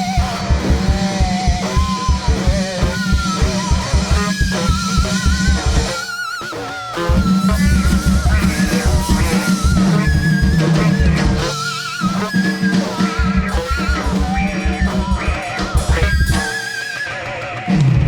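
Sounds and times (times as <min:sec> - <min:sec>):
distorted guitar chugging: 0:00.0 - 0:18.0
fast drums: 0:00.0 - 0:18.0
heavy metal music: 0:00.0 - 0:18.0.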